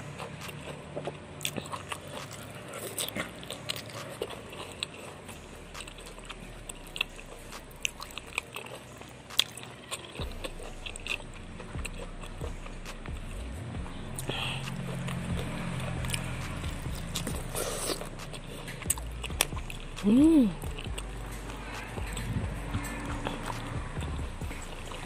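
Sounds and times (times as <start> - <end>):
crunching raw vegetables: 0.0 - 25.0.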